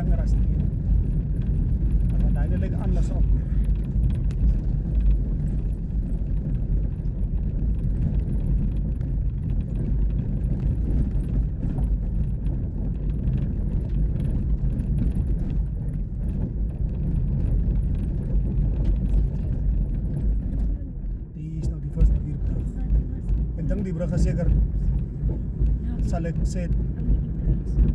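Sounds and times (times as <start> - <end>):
vehicle interior rumble: 0.0 - 27.9.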